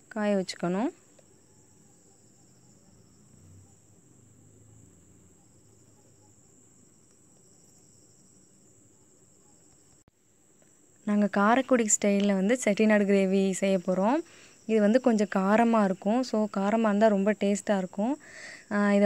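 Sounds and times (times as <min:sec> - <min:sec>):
faint high-pitched whine: 0:00.0 - 0:19.0.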